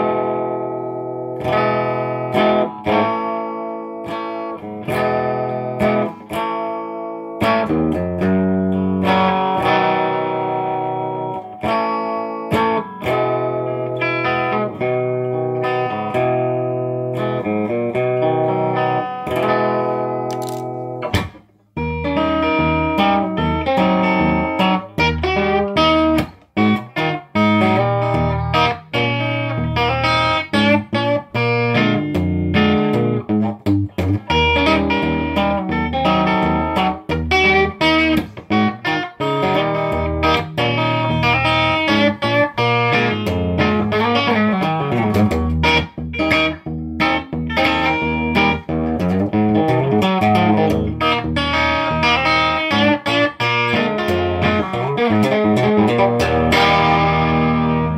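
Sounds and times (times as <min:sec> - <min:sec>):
electric guitar chord ringing: 0:00.0 - 0:57.9
electric guitar picked notes: 0:00.0 - 0:57.9.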